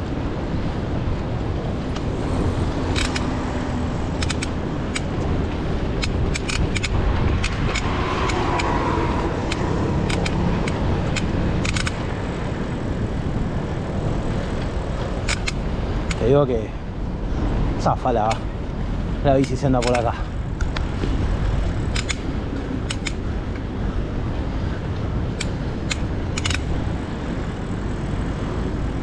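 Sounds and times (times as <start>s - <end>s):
bike clicks and rattles: 0.0s - 16.7s, 18.0s - 29.0s
wind rumbling on microphone: 0.0s - 29.0s.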